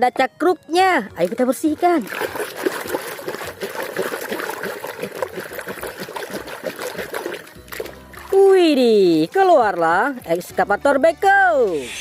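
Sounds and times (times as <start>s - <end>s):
water splashing and trickling: 0.8s - 11.8s.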